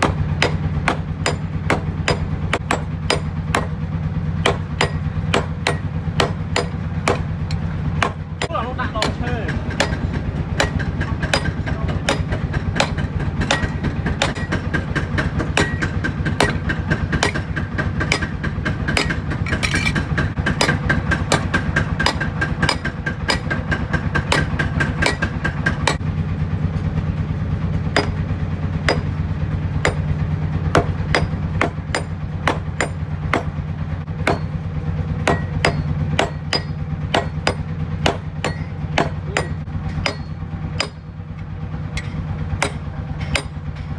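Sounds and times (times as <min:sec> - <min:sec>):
hammer blows on anvil: 0:00.0 - 0:03.8, 0:04.4 - 0:26.0, 0:28.0 - 0:29.2, 0:29.8 - 0:33.6, 0:34.2 - 0:34.6, 0:35.2 - 0:41.2, 0:42.0 - 0:43.9
low hum: 0:00.0 - 0:43.9.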